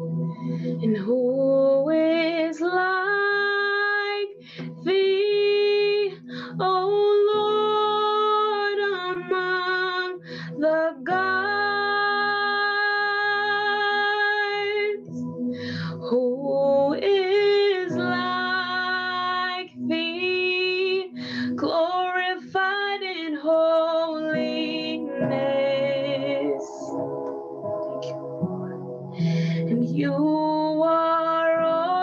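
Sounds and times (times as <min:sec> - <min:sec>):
electric keyboard chords: 0:00.0 - 0:32.0
woman singing worship song: 0:00.5 - 0:27.0, 0:29.2 - 0:32.0.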